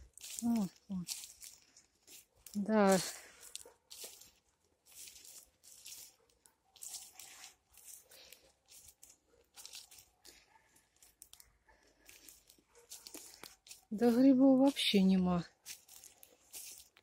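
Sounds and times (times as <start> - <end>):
faint footsteps through low plants: 0.0 - 17.0.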